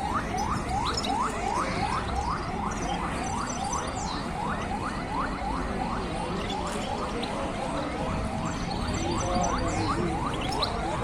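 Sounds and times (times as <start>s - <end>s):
market background noise: 0.0s - 11.0s.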